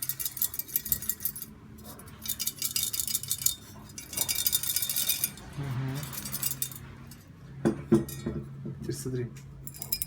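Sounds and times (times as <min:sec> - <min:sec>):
exhaust part rattling with metallic clinks: 0:00.0 - 0:08.7, 0:09.6 - 0:10.0.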